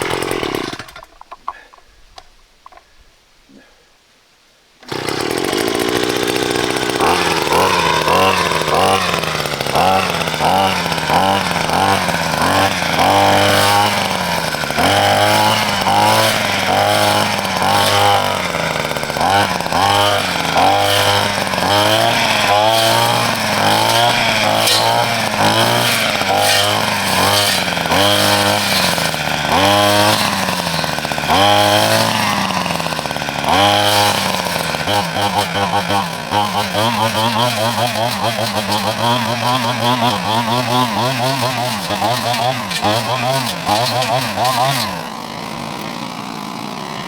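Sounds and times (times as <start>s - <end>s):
chainsaw cutting wood: 0.0s - 1.6s, 4.8s - 47.0s.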